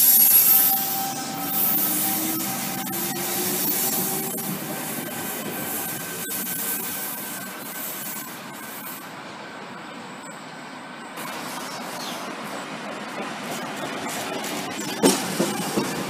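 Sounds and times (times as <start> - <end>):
electric train approaching: 0.0 - 16.0
train wheels on rails: 0.0 - 16.0.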